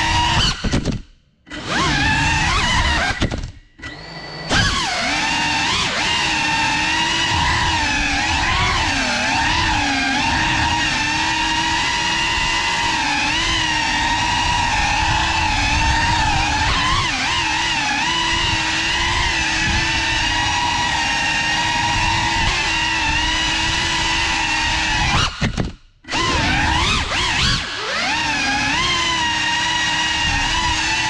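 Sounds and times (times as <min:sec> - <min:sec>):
drone propellers whining: 0:01.5 - 0:25.5, 0:26.1 - 0:31.0.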